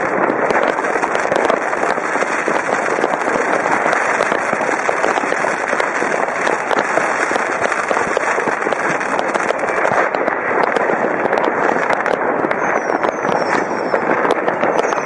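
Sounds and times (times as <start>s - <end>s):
fireworks and firecrackers crackling: 0.0s - 15.0s.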